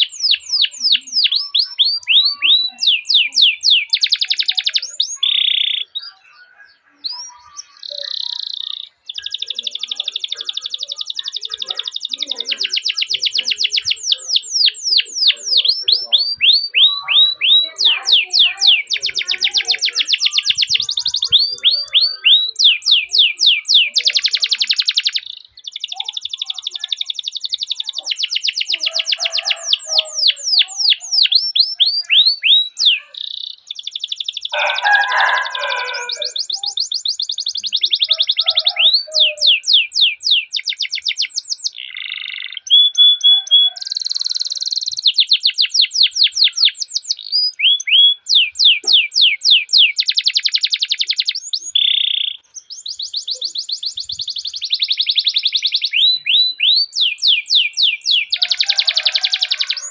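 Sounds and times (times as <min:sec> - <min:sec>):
canary singing trills and chirps: 0:00.0 - 0:59.9.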